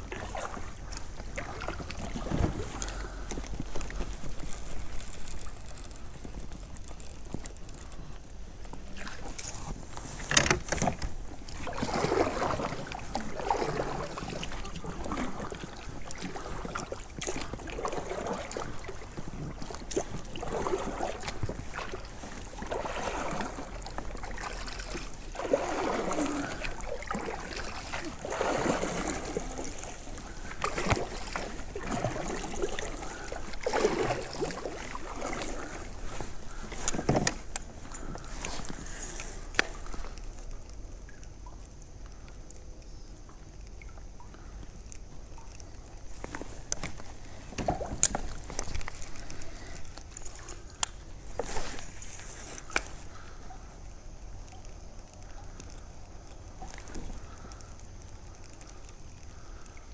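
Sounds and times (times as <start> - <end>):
paddle swishing in water: 0.0 - 40.6, 45.4 - 53.6.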